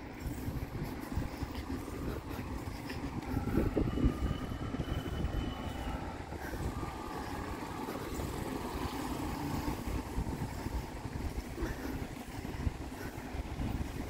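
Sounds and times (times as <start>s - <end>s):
vehicle rumbling on paved street: 0.0s - 14.0s.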